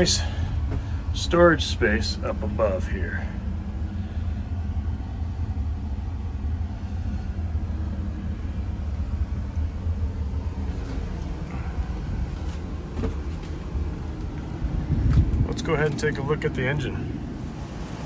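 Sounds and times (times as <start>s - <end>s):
engine idling rumble: 0.0s - 18.0s.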